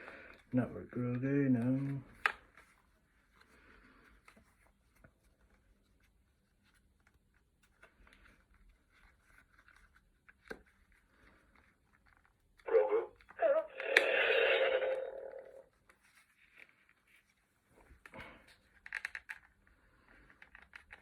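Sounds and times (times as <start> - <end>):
soft rustles: 1.6 - 13.6, 15.0 - 21.0.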